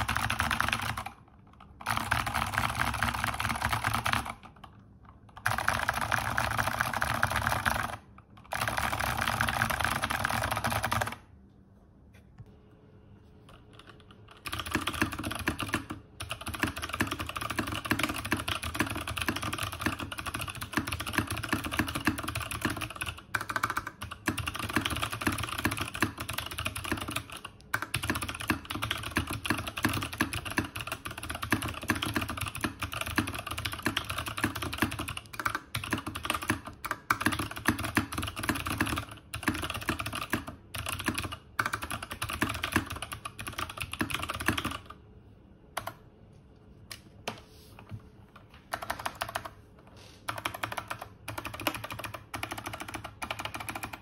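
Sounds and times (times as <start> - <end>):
clicky keyboard typing: 0.0 - 11.3, 13.4 - 45.0, 45.7 - 46.0, 46.9 - 49.6, 50.2 - 54.0.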